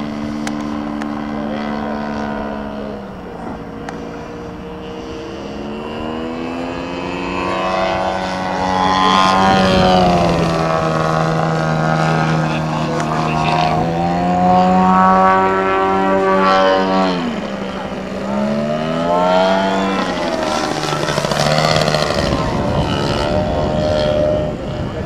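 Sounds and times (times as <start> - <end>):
model plane engine: 0.0 - 25.0.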